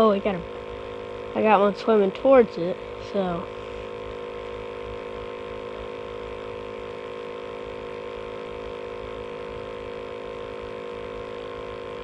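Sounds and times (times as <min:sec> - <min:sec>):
hum of held tones: 0:00.0 - 0:12.0.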